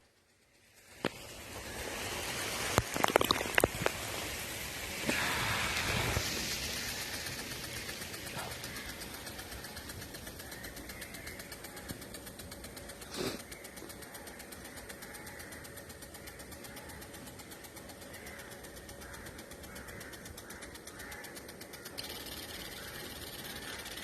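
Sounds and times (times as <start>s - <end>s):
fast sprinkler ticking: 0.0s - 24.0s
sprinkler water jet hissing: 0.0s - 24.0s.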